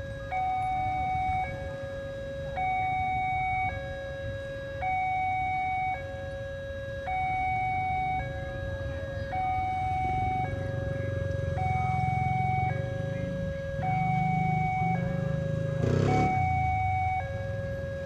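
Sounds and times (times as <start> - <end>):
level crossing two-tone alarm: 0.0 - 18.0.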